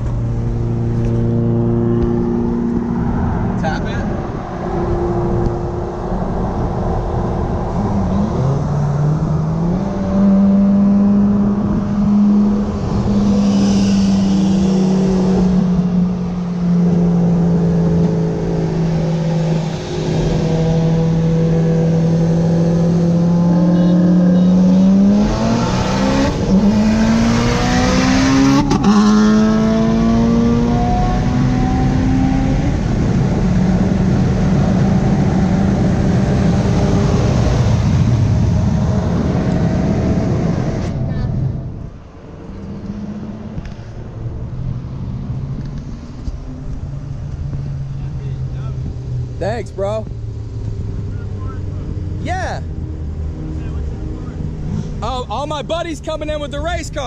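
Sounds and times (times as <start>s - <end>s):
car engine accelerating: 0.0s - 57.0s
road rumble: 0.0s - 57.0s.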